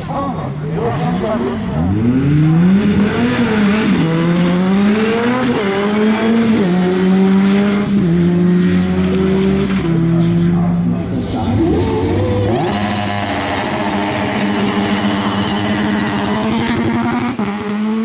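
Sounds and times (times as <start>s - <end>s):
race car engine accelerating: 0.1s - 18.0s.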